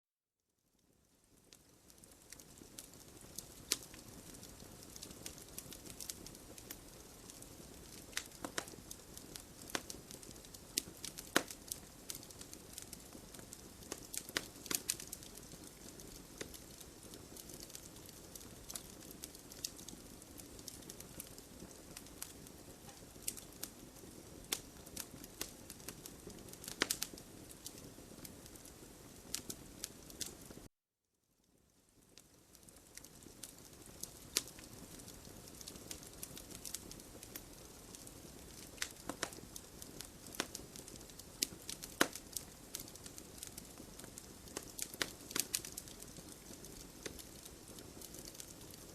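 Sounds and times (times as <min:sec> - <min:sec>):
burning wood crackling and popping: 0:00.8 - 0:30.7, 0:31.9 - 0:48.9
fire hissing: 0:02.1 - 0:30.6, 0:33.0 - 0:48.9.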